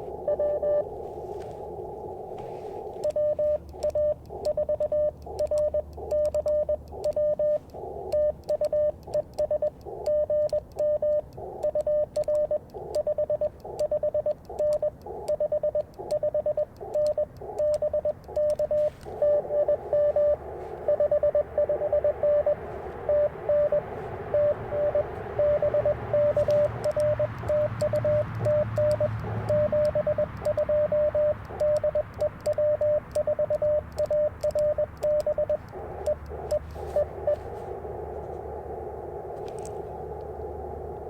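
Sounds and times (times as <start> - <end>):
morse code tones: 0.0 - 41.0
receiver hiss: 0.0 - 41.0.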